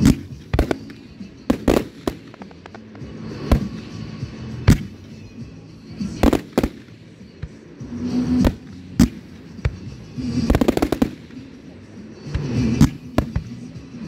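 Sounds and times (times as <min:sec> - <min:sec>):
fireworks bursting bangs: 0:00.0 - 0:14.0.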